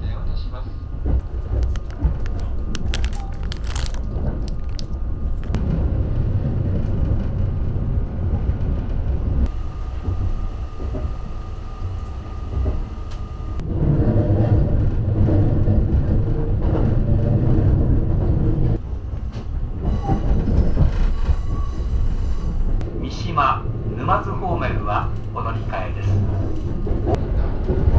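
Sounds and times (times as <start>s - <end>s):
train running rumble: 0.0s - 27.9s.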